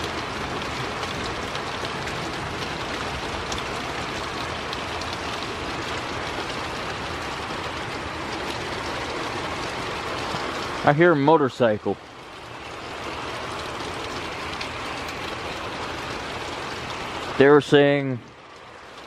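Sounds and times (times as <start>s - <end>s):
faint raindrop ticks: 0.0s - 10.8s, 12.2s - 19.0s
rain falling: 0.0s - 19.0s
wind: 0.0s - 19.0s.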